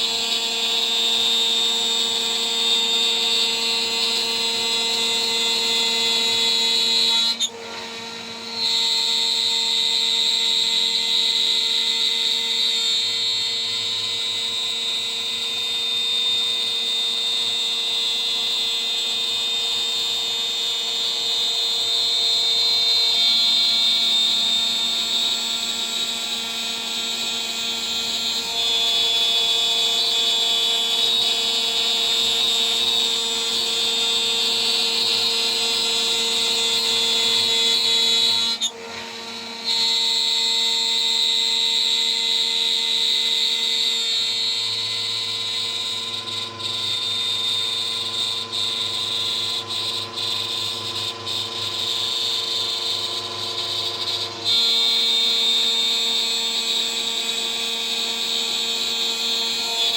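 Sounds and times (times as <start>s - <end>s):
router spindle high-pitched whine: 0.0s - 59.9s.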